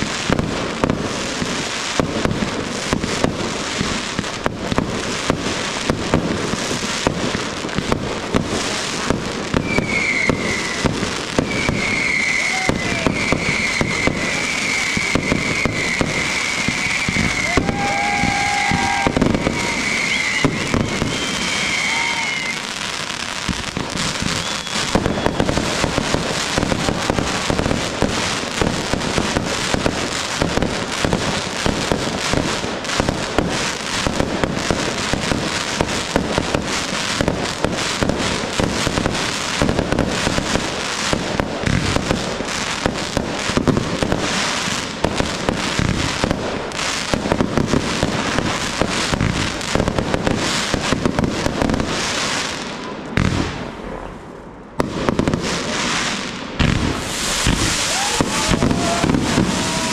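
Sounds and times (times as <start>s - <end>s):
fireworks barrage: 0.0s - 59.9s.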